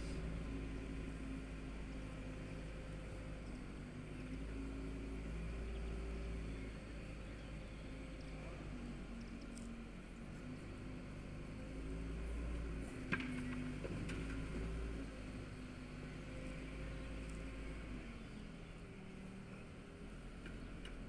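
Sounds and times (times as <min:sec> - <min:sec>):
demolition machine engine running: 0:00.0 - 0:21.0.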